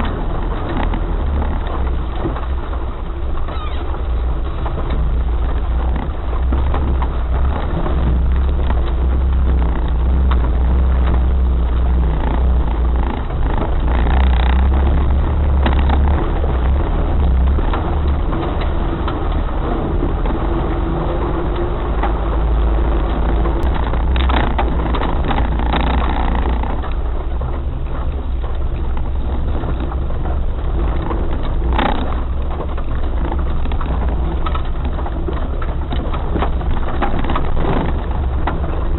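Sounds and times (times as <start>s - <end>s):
short knocks and clatters: 0.0s - 38.9s
vehicle engine low rumble: 0.0s - 38.9s.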